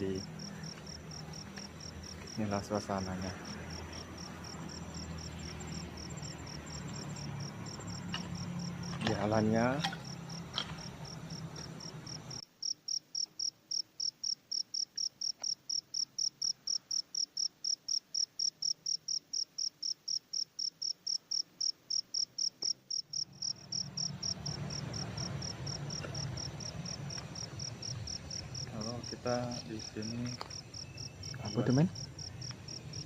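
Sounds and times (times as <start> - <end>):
insect chirping: 0.0 - 33.0.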